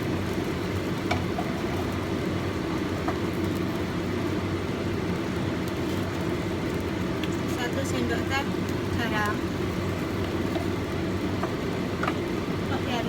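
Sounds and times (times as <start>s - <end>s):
steady low rumble with hum: 0.0s - 13.0s.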